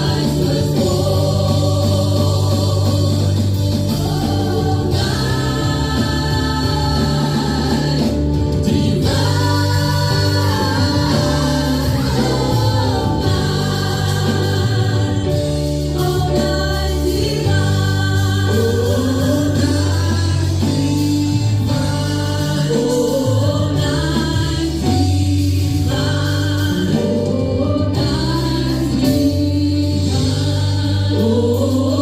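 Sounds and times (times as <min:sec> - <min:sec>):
band with strong bass: 0:00.0 - 0:32.0
choir singing: 0:00.0 - 0:32.0.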